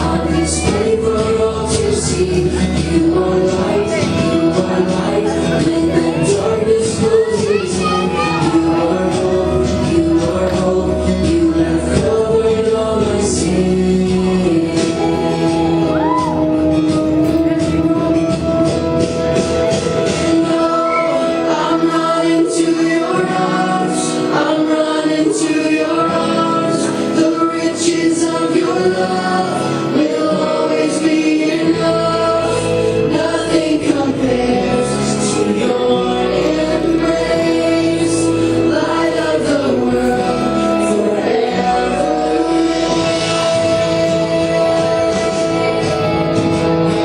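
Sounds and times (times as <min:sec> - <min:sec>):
group singing: 0:00.0 - 0:47.0
instrumental backing: 0:00.0 - 0:47.0.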